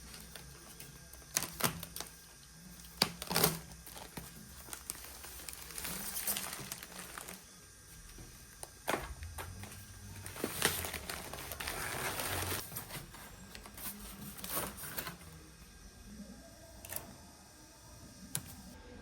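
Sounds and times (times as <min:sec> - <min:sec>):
packaging crinkling and rustling: 0:00.0 - 0:15.4.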